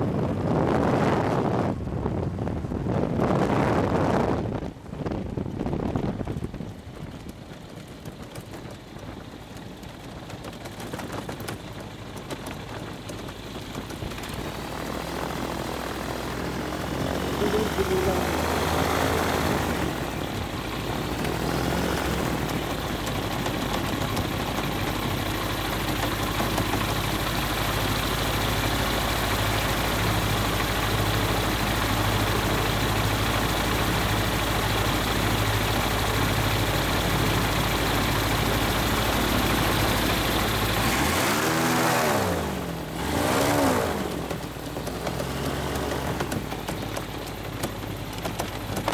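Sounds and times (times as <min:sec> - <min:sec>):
wind noise on microphone: 0:00.0 - 0:46.9
microlight engine idling: 0:06.2 - 0:41.1, 0:44.0 - 0:48.9.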